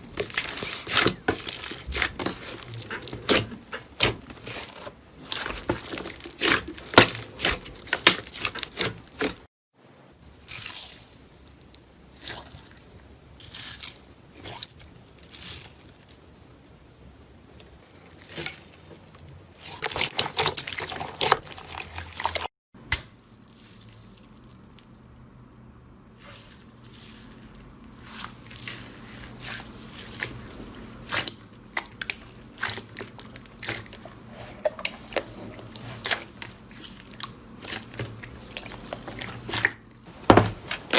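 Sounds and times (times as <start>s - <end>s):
slime squishing and crackling: 0.0s - 9.5s, 10.3s - 16.3s, 17.9s - 40.9s.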